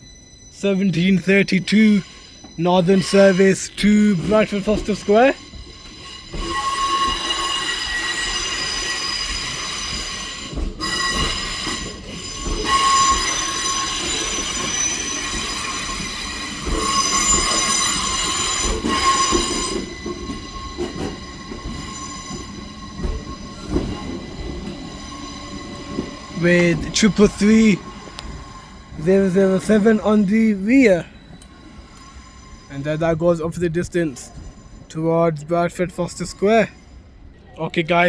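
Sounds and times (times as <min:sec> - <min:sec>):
train high-pitched whine: 0:00.0 - 0:37.3
train wheels rumbling on rails: 0:00.7 - 0:38.0.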